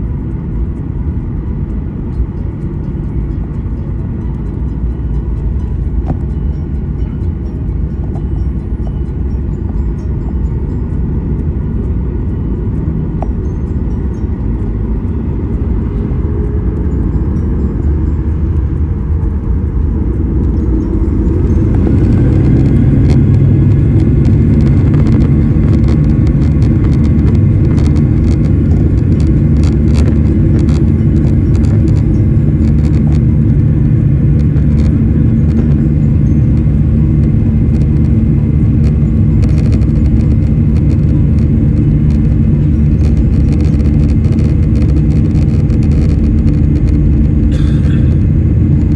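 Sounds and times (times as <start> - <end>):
jet engine rumble in cabin: 0.0 - 48.9.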